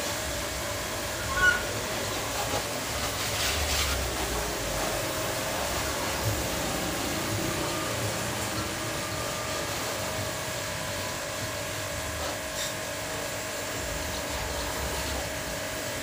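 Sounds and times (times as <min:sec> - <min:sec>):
pressure washer spraying: 0:00.0 - 0:16.0.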